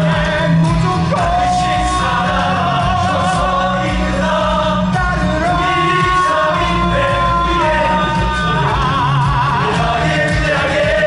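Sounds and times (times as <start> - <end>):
amplified band backing track: 0.0 - 11.0
men singing: 0.0 - 11.0.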